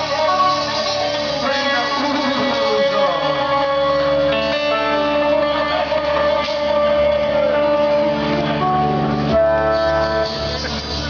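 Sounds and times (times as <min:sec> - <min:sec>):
live dance music band: 0:00.0 - 0:11.0
plucked string instruments: 0:00.0 - 0:11.0.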